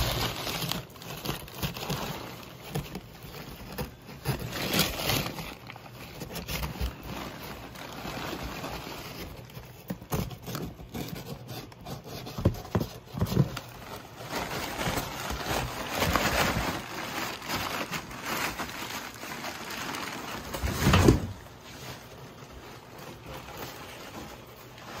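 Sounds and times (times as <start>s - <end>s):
cardboard scraping and bumps: 0.0s - 18.9s, 19.7s - 25.0s
paper rustling and crinkling: 0.0s - 25.0s.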